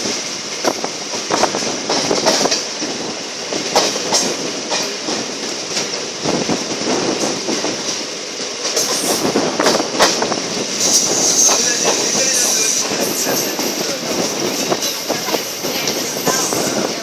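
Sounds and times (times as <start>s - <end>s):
wheels clacking over rail joints: 0.0s - 17.0s
wheels rushing on rail: 0.0s - 17.0s.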